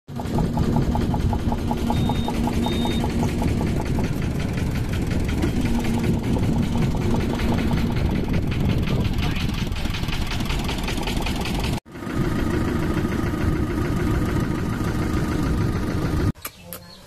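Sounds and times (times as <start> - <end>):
boat engine droning: 0.1 - 16.4.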